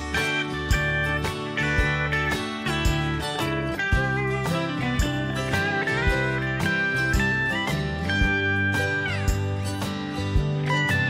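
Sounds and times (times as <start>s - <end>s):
slide guitar tune: 0.0s - 11.0s
steady beat: 0.0s - 11.0s.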